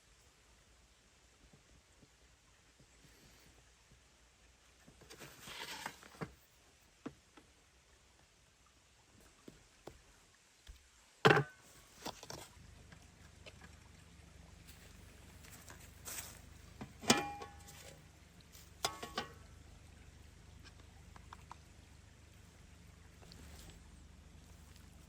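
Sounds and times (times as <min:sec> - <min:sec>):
faint low background hum: 0:00.0 - 0:25.0.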